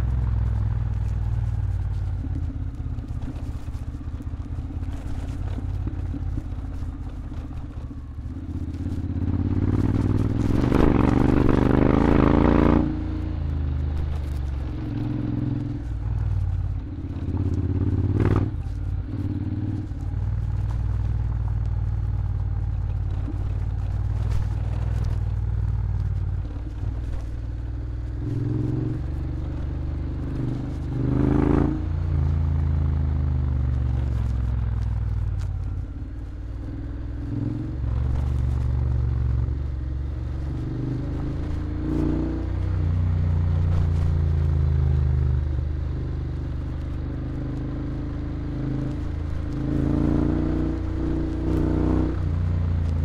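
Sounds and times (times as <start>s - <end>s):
scooter engine running: 0.0s - 47.9s.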